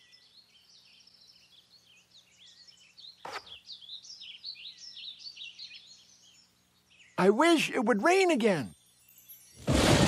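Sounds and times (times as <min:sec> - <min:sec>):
songbirds chirping and twittering: 0:00.0 - 0:10.0.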